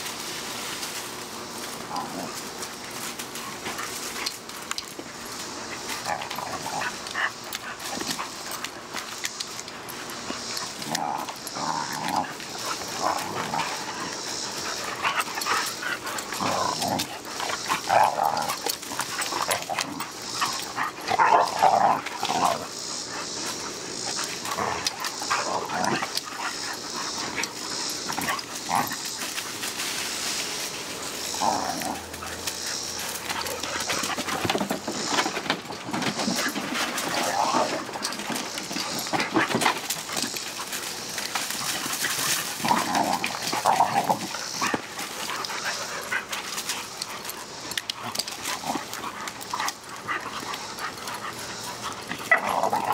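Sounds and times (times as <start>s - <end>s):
young dogs play-fighting: 1.3s - 52.9s.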